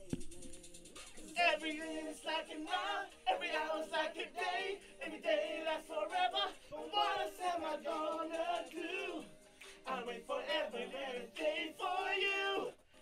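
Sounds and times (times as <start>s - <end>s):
men singing a cappella: 1.2s - 13.0s.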